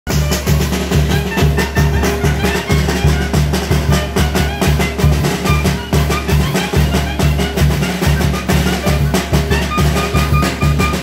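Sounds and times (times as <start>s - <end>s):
brass band playing dance tune: 0.1s - 11.0s.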